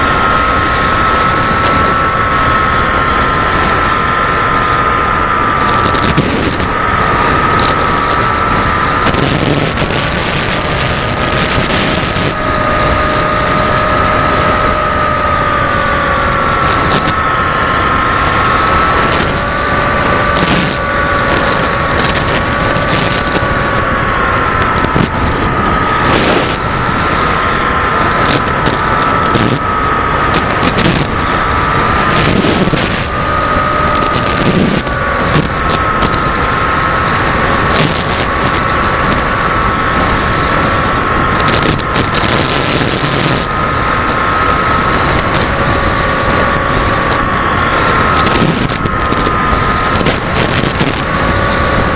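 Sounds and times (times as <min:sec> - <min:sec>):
model aircraft motor whining: 0:00.0 - 0:51.9
wind on microphone: 0:00.0 - 0:51.9.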